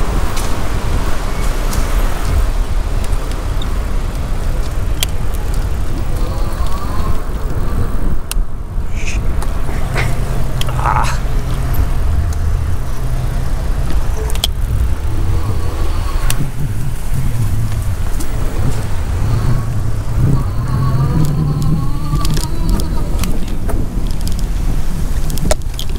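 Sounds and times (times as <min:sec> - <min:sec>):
car engines in traffic jam: 0:00.0 - 0:25.9.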